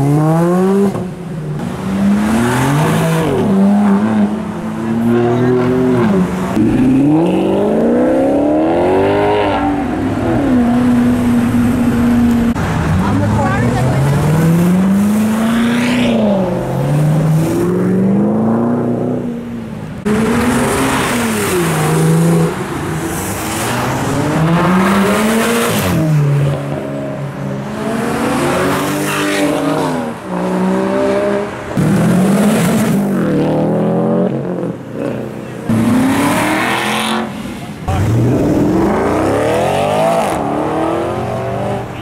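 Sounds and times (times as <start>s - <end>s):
cars accelerating past: 0.0s - 42.0s.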